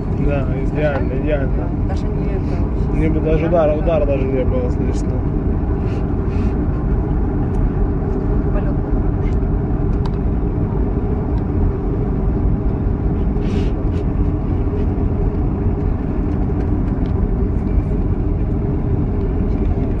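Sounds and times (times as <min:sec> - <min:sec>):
aircraft engine noise: 0:00.0 - 0:20.0
wheel rumble on runway: 0:00.0 - 0:20.0.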